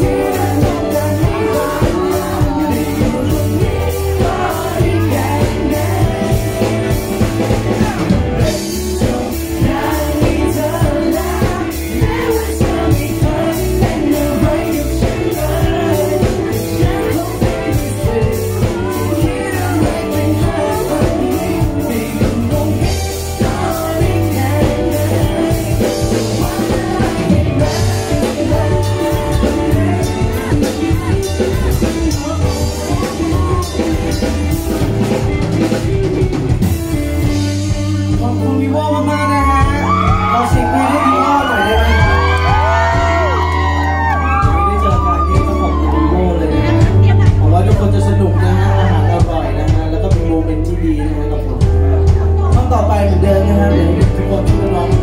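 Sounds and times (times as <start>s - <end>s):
man singing through pa system: 0.0s - 43.4s, 44.2s - 55.0s
pop-rock backing with drums and bass: 0.0s - 55.0s.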